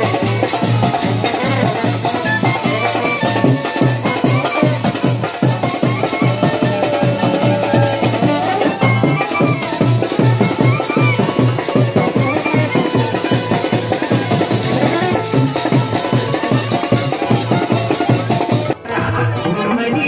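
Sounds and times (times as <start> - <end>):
clarinets playing wavering melody: 0.0 - 18.8
fast steady drum beat: 0.0 - 18.8.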